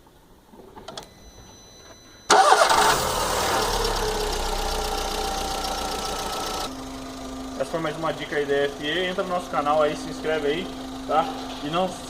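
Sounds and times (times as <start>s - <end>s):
car engine starting and idling: 2.3s - 12.0s.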